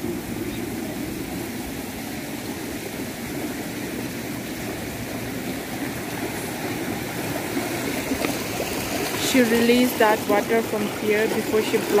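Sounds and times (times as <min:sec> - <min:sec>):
water running along channel: 0:00.0 - 0:12.0.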